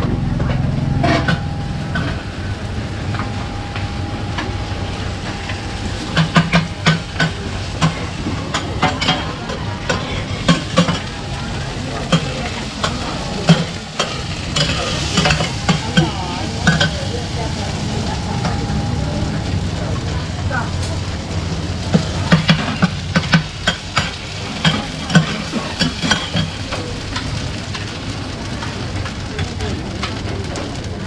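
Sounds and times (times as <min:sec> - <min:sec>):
frying sizzle: 0:00.0 - 0:31.0.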